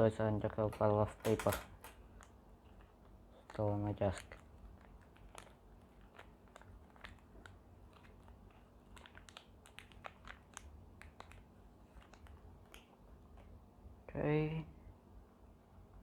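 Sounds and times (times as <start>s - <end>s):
low room hum: 0.0s - 16.0s
light handling clicks and crinkles: 0.4s - 13.6s.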